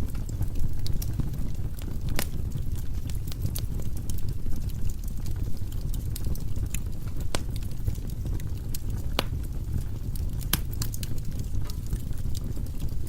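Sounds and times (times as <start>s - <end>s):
fire crackles and pops: 0.0s - 13.0s
firewood burning in fireplace: 0.0s - 13.0s.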